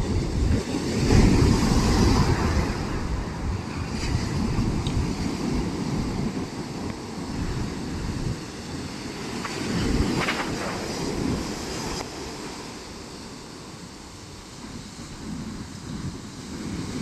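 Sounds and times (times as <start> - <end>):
sea waves breaking: 0.0 - 17.0
wind rumble on microphone: 0.0 - 17.0.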